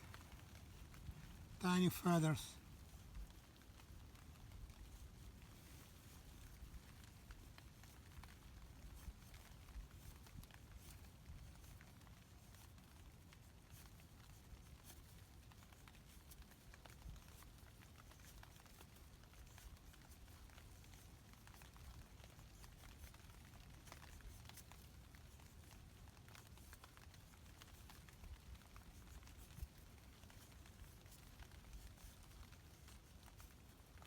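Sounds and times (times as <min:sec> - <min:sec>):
faint rain pattering: 0:00.0 - 0:34.0.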